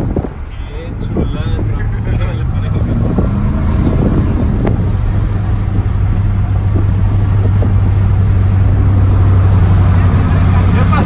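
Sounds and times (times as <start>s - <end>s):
road noise: 0.0s - 11.0s
vehicle engine droning: 0.0s - 11.0s.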